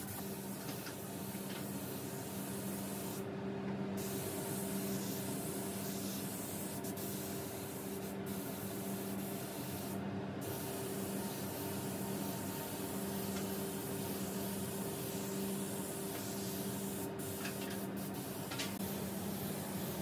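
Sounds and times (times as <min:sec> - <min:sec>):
steady low hum: 0:00.0 - 0:20.0
spray gun hissing: 0:00.1 - 0:03.2, 0:04.0 - 0:20.0.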